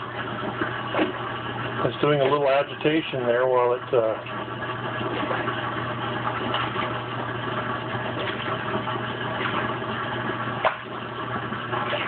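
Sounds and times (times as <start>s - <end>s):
washing machine drain pump humming: 0.0s - 12.0s
washplate agitating: 0.0s - 12.0s.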